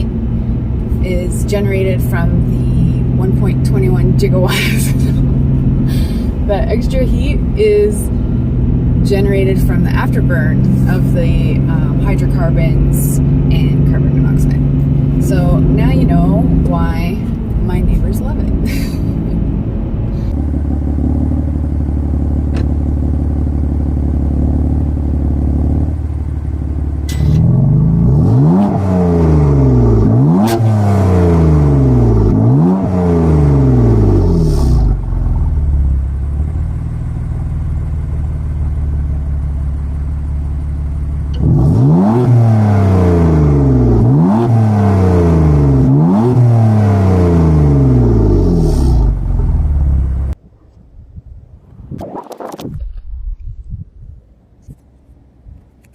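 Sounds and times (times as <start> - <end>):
car engine idling and revving: 0.0 - 55.9.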